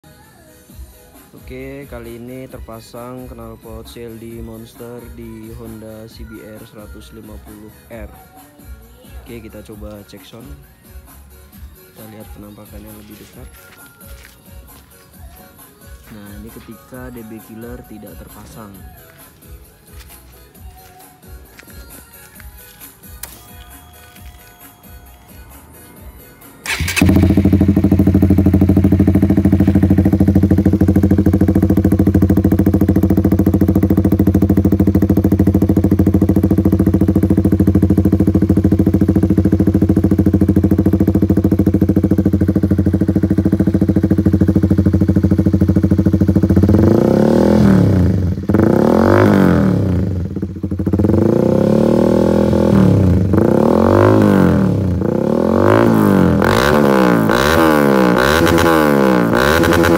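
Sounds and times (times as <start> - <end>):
motorcycle engine idling and revving: 0.7 - 59.9.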